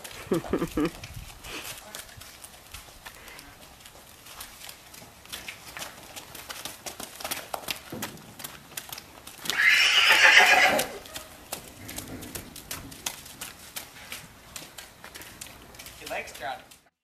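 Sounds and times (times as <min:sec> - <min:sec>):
horse hooves trotting on dirt: 0:00.0 - 0:17.0.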